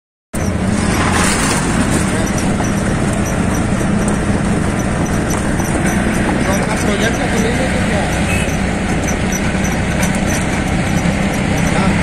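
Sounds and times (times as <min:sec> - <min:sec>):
auto-rickshaw engine drone: 0:00.3 - 0:12.0
road and wind noise: 0:00.3 - 0:12.0.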